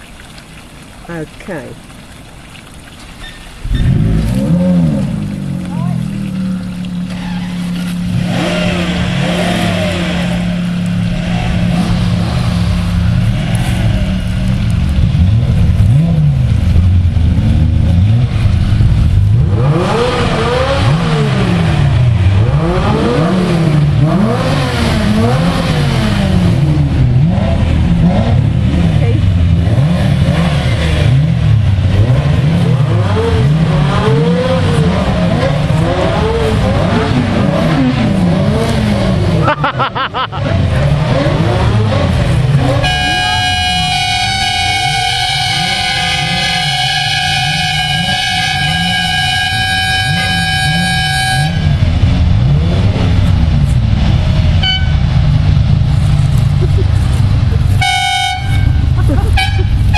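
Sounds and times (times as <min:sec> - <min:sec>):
sports car engines revving: 0:03.6 - 0:59.9.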